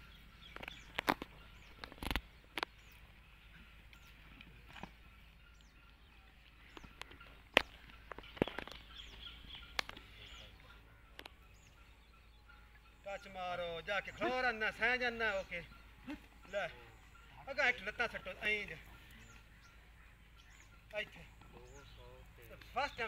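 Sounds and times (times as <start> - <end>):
birds chirping faintly: 0.0 - 23.0.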